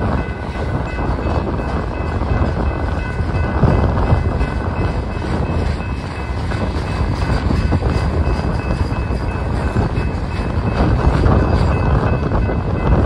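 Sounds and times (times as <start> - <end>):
crossing bell ringing: 0.0 - 13.0
train wheels rumbling on rails: 0.0 - 13.0.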